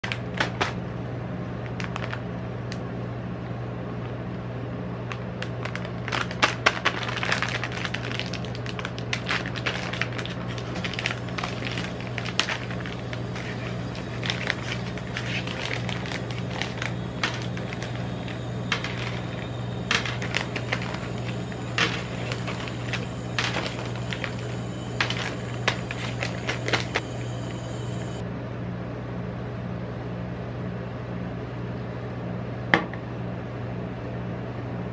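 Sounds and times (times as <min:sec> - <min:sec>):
ice cream machine humming: 0:00.0 - 0:34.9.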